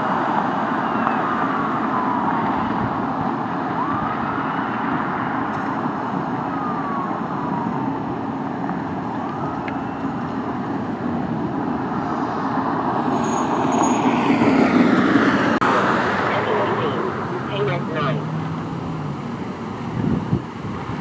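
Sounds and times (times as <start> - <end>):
fire truck siren: 0.0 - 21.0
road and engine noise: 0.0 - 21.0.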